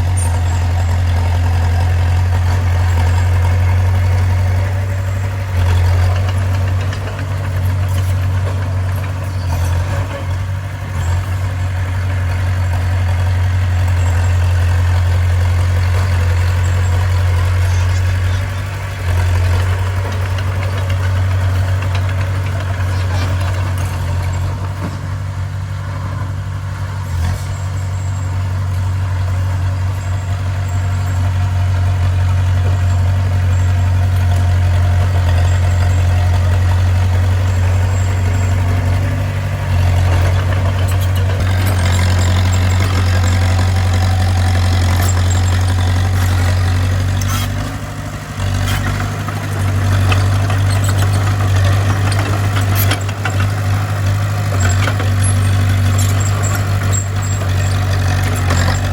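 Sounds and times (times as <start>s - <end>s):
bulldozer diesel engine humming: 0.0s - 58.9s.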